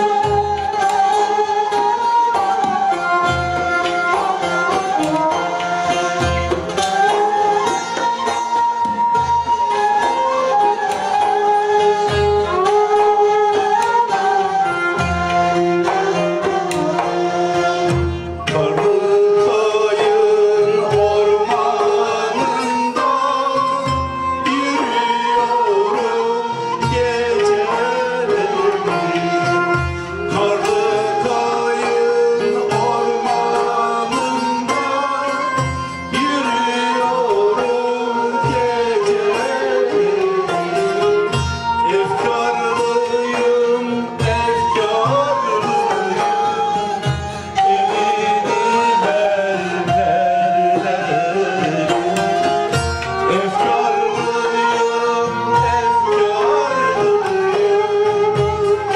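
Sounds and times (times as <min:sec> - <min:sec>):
folk music ensemble: 0:00.0 - 0:58.9
person singing: 0:11.2 - 0:58.9.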